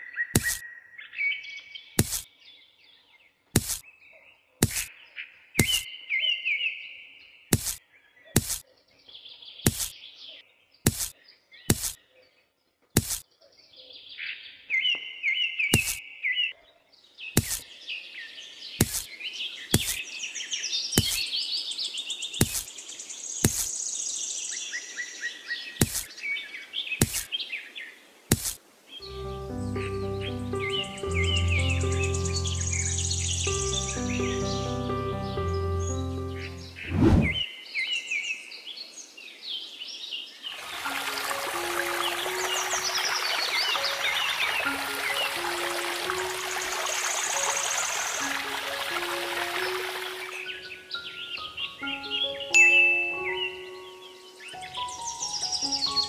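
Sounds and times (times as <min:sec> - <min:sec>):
birds chirping and trilling: 0:00.0 - 0:28.0, 0:29.0 - 0:56.0.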